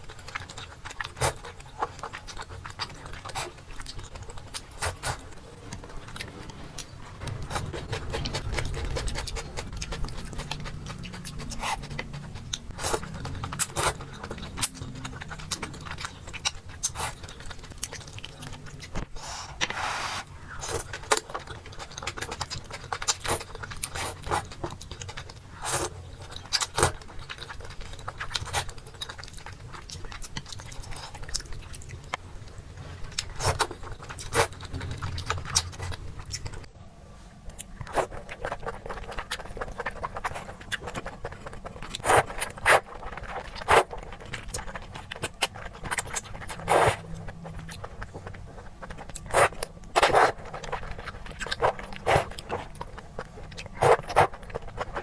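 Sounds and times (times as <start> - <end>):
chewing and biting: 0.0 - 19.1, 20.5 - 36.7, 37.4 - 55.0
steady low hum: 0.0 - 55.0.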